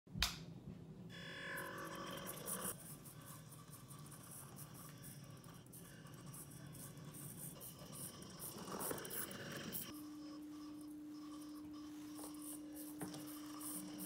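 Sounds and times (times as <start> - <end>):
tiny toy car motor whirring: 1.5 - 11.6, 12.3 - 14.0.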